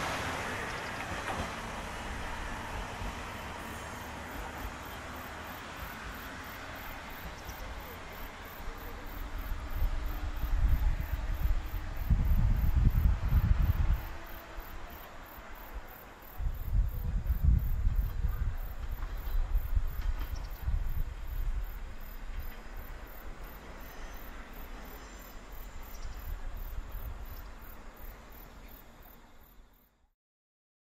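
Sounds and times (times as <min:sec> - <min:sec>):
distant train rumble: 0:00.0 - 0:29.9
insects chirping: 0:03.2 - 0:29.9.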